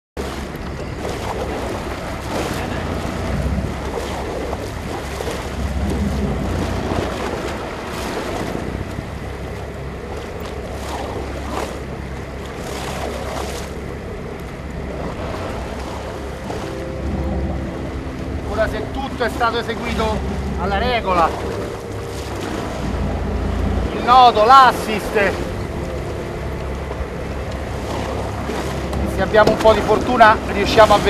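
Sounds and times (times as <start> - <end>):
steady low drone: 0.2 - 31.0
waves washing: 0.2 - 31.0
wind buffeting microphone: 0.2 - 31.0.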